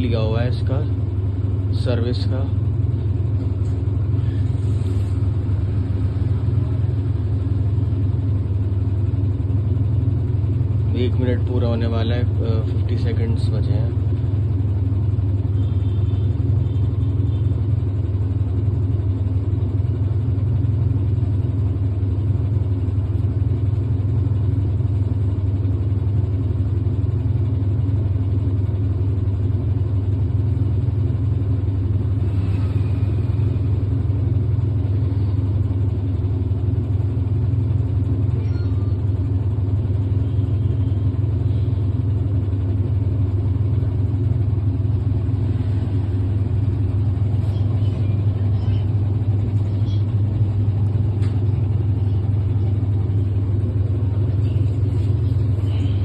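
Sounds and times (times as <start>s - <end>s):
washing machine spin cycle hum: 0.0s - 56.0s.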